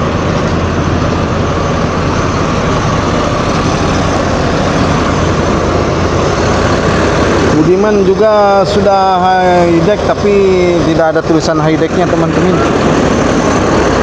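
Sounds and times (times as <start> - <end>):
diesel bus engine idling: 0.0 - 14.0.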